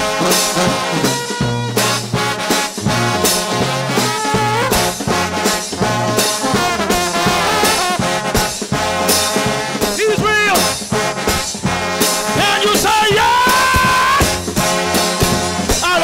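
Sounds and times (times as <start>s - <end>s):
trombone band playing gospel: 0.0s - 16.0s.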